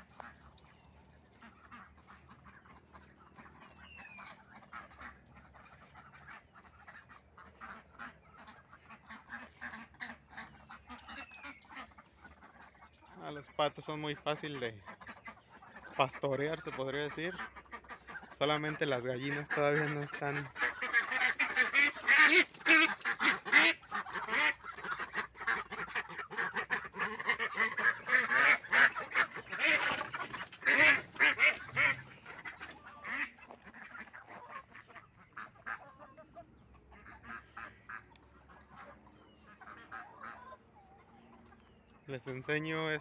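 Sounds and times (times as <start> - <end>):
ducks quacking: 0.0 - 43.0.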